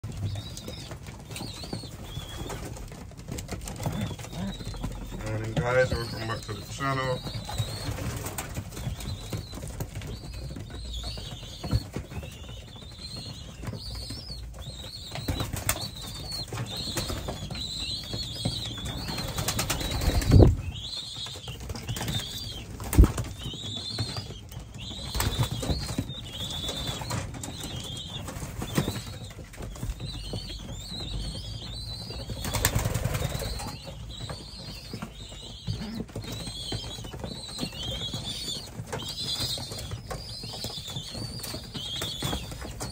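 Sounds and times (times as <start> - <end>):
pigeon wings flapping: 0.1 - 42.9
high chirping calls: 3.8 - 42.9.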